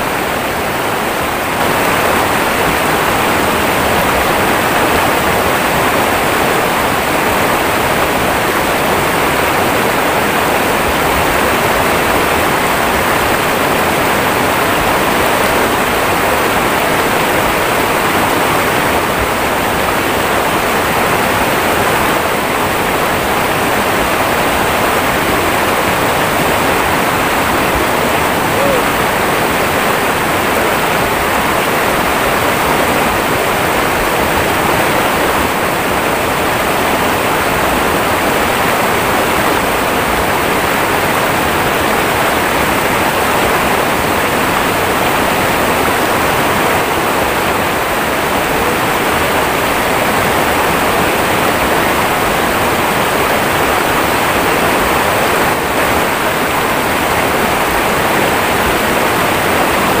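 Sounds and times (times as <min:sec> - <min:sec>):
river rapids rushing over rocks: 0:00.0 - 1:00.0.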